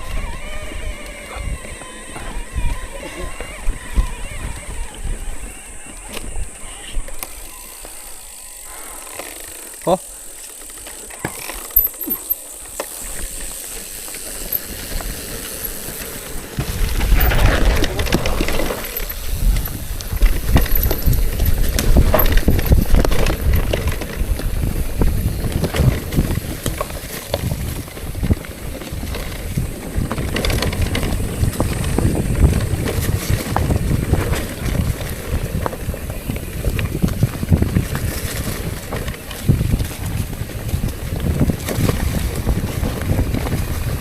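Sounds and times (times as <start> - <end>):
wind rumbling on microphone: 0.0 - 10.3, 11.2 - 44.0
bicycle rattling on gravel: 0.0 - 44.0.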